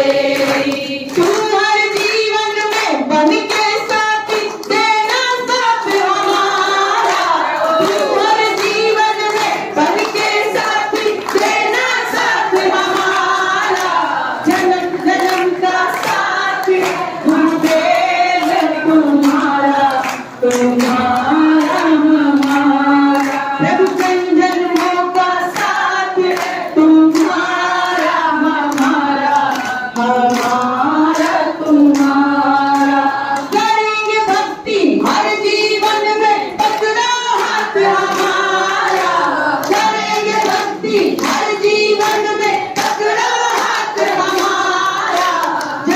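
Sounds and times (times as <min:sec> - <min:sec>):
devotional song singing: 0:00.0 - 0:45.9
rhythmic hand clapping: 0:00.0 - 0:45.9.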